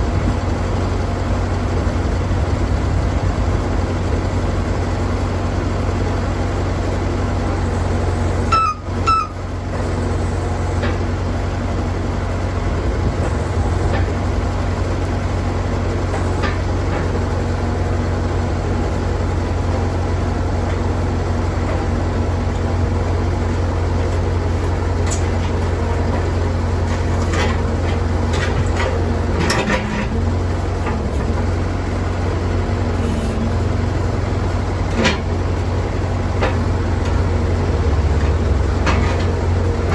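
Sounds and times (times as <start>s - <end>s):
loader engine running under load: 0.0s - 39.9s.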